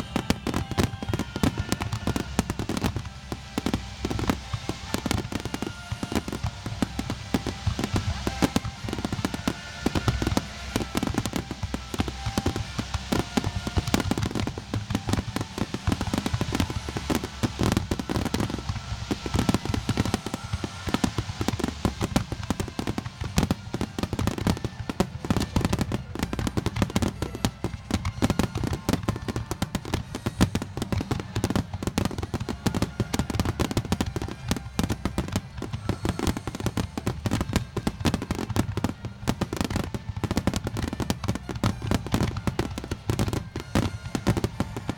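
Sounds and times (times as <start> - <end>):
fireworks bangs and crackles: 0.0 - 44.9
music playing: 0.0 - 44.9.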